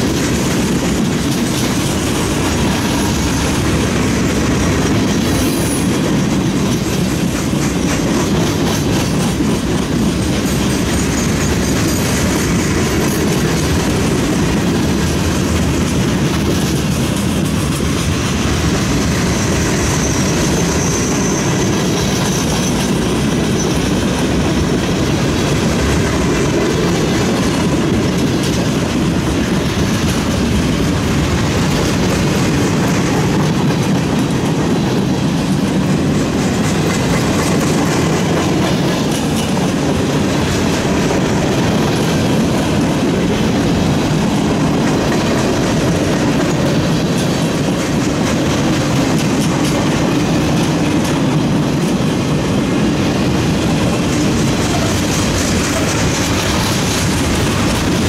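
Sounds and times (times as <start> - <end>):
freight train rumbling past: 0.0 - 58.0
wheels clattering over rail joints: 0.0 - 58.0.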